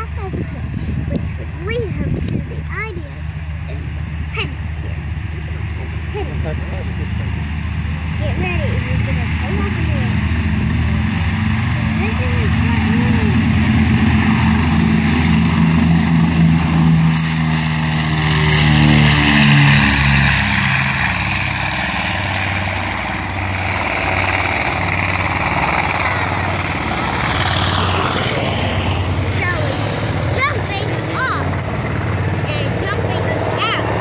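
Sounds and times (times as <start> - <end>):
propeller plane engines droning: 0.0 - 34.0.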